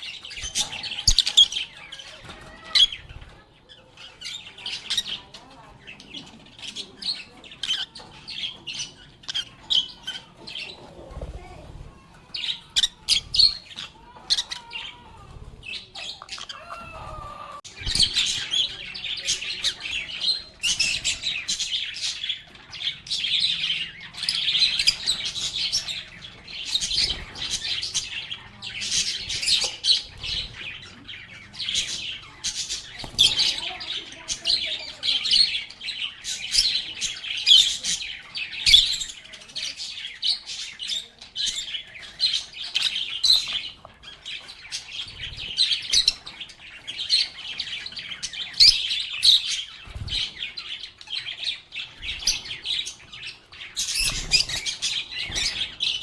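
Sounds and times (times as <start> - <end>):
lovebirds chirping and chattering: 0.0 - 56.0.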